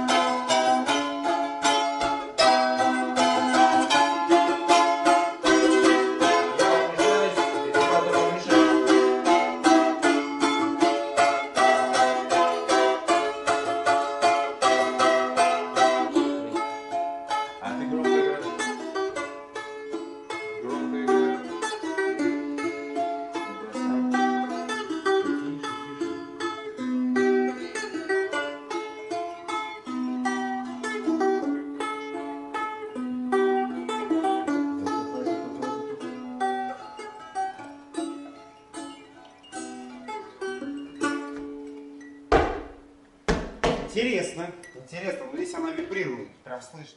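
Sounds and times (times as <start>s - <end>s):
balalaikas strumming rapidly: 0.0s - 46.4s.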